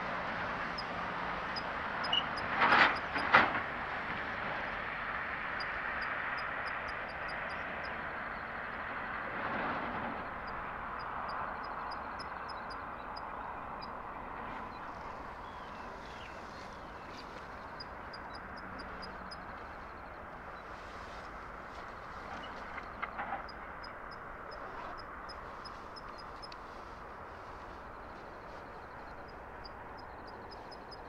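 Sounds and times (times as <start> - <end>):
distant traffic hiss: 0.0 - 31.0.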